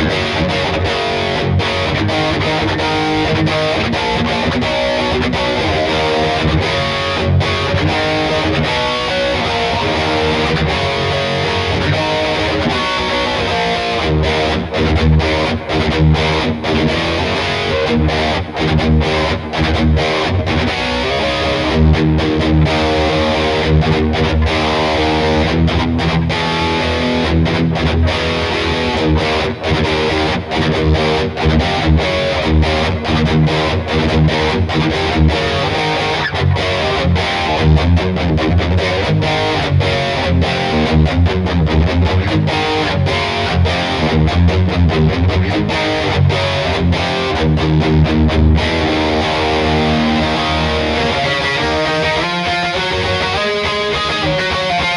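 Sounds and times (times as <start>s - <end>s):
distorted electric guitar riffs: 0.0s - 54.9s.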